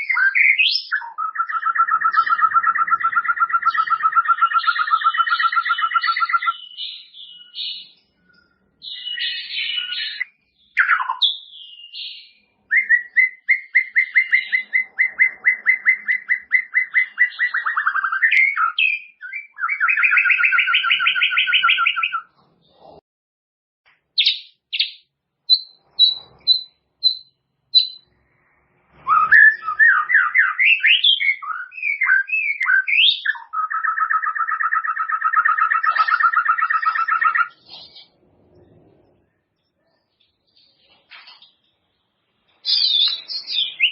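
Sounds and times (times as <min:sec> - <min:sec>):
bird singing trills and whistles: 0:00.0 - 0:22.4, 0:24.2 - 0:28.1, 0:28.9 - 0:38.1, 0:42.5 - 0:43.9.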